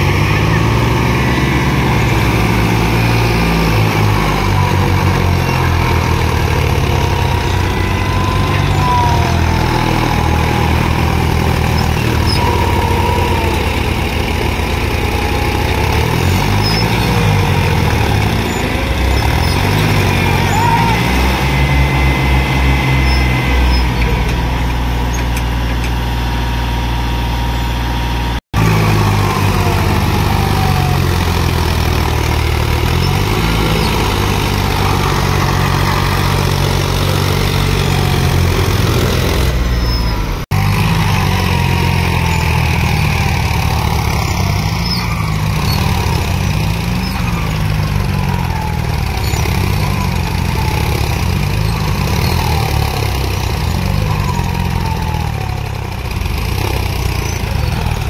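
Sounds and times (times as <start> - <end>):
tractor diesel engines revving: 0.0 - 58.0.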